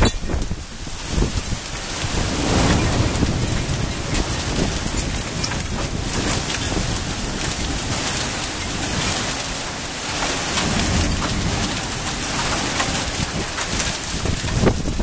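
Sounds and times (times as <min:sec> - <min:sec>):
heavy rain and hail: 0:00.0 - 0:15.0
low uneven thunder rumble: 0:00.0 - 0:15.0.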